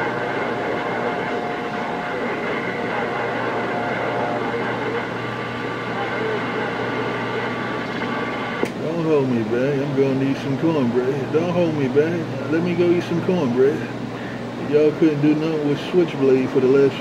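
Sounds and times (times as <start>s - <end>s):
noisy radio signal from speaker: 0.0s - 17.0s.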